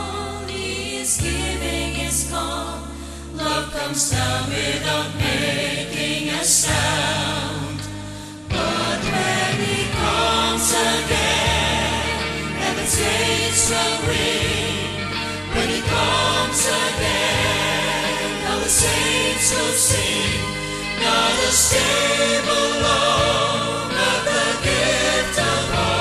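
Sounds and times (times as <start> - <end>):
instrumental accompaniment with bass: 0.0 - 26.0
mixed choir singing gospel: 0.0 - 26.0.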